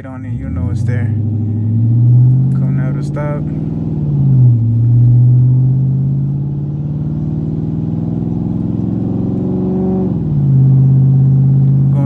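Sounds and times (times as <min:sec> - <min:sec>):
loud car exhaust accelerating: 0:00.0 - 0:12.0.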